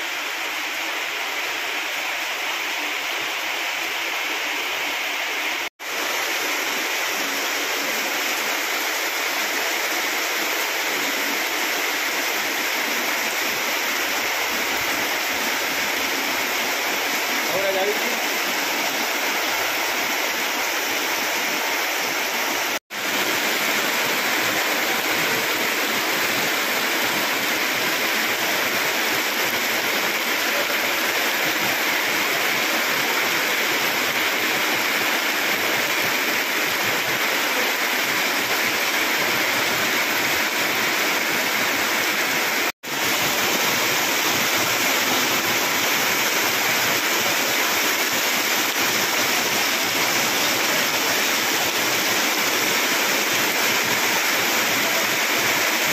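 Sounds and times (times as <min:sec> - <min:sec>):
heavy rain: 0:00.0 - 0:55.9
rushing water: 0:00.0 - 0:55.9.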